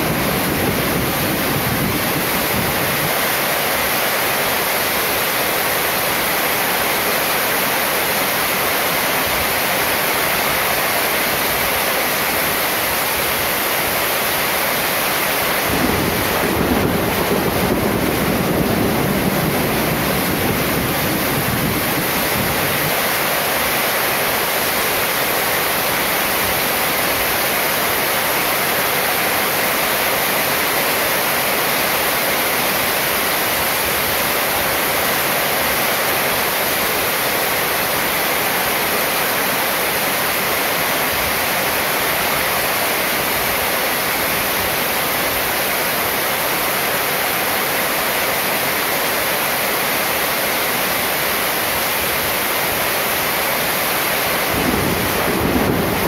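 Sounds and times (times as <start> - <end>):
heavy rain on metal roof: 0.0 - 56.0.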